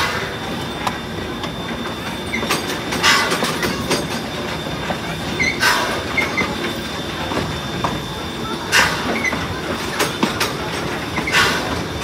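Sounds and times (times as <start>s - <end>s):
steam hissing rushes: 0.0s - 12.0s
train wheels rumbling on rails: 0.0s - 12.0s.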